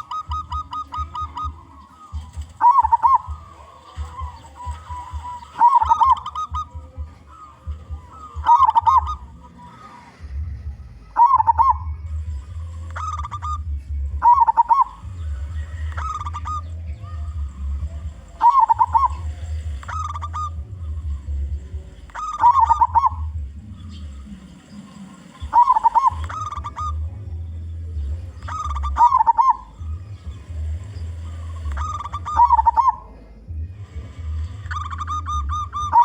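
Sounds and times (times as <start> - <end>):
dove cooing: 0.0 - 36.0
low rumble: 0.0 - 36.0.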